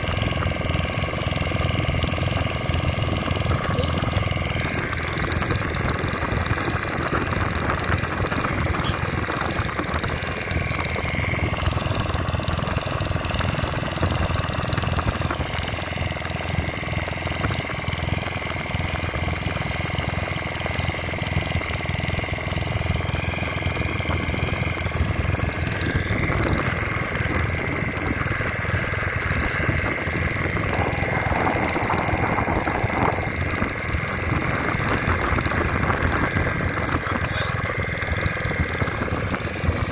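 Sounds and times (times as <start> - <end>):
boat engine chugging: 0.0 - 39.9
high engine whine: 0.0 - 39.9.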